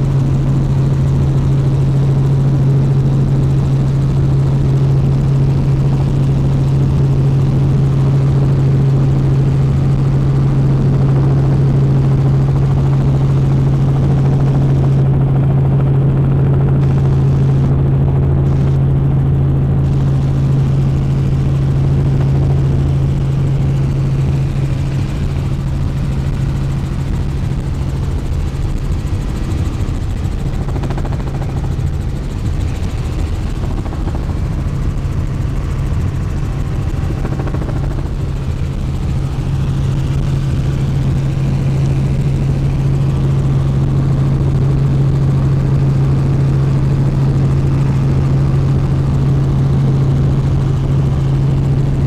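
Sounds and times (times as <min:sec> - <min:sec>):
helicopter engine and rotor noise: 0:00.0 - 0:52.0.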